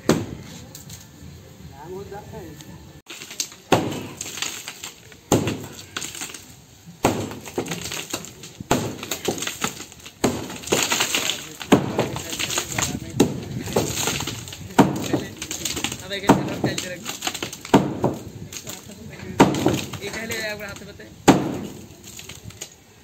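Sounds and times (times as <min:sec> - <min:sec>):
broken pieces clinking: 0:03.1 - 0:06.6, 0:07.2 - 0:22.8
heavy tool striking concrete: 0:03.1 - 0:20.7, 0:21.3 - 0:22.2.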